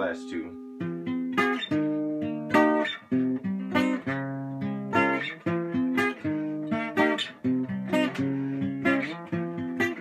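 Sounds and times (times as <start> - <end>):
acoustic guitar picked chords: 0.0 - 10.0.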